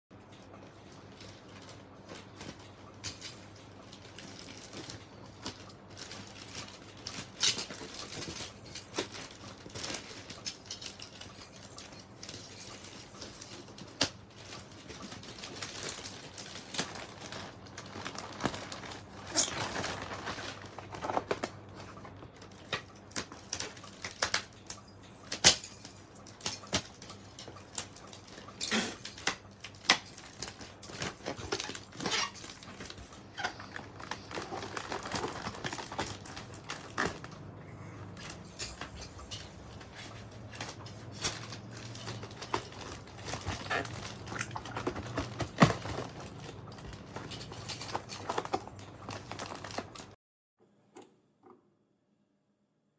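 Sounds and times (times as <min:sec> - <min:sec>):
plastic packaging crinkling: 0:00.3 - 0:50.2.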